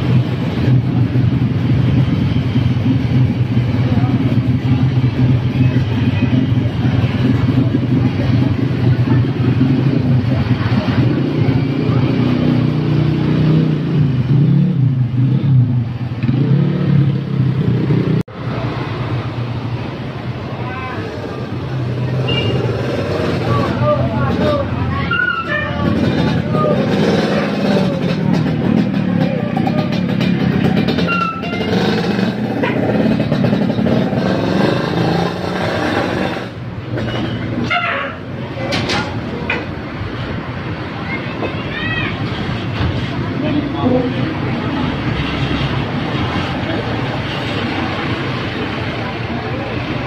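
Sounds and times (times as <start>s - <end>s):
bus engine revving: 0.0s - 50.0s
passing traffic: 0.0s - 50.0s.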